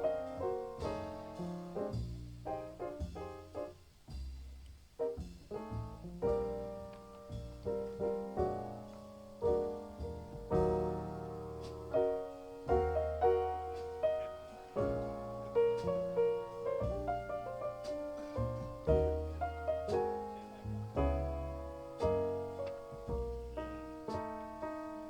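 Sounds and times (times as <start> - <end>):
jazz piano over loudspeakers: 0.0 - 25.0.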